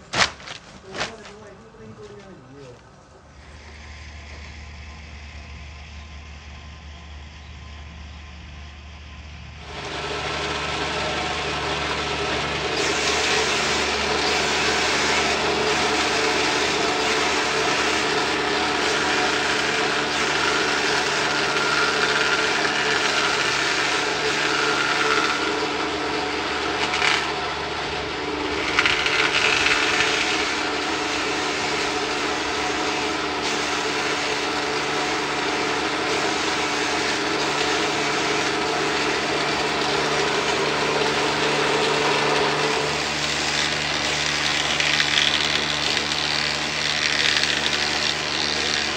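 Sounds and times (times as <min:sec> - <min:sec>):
wood-cutting machine motor hum: 0:09.5 - 0:48.9
rasping wood cutting: 0:09.6 - 0:48.9.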